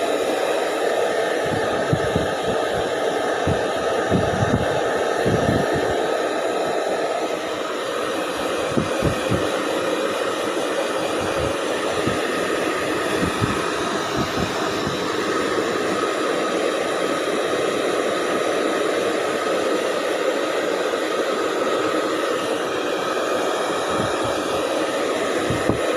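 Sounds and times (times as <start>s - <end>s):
hair dryer blowing: 0.0s - 25.9s.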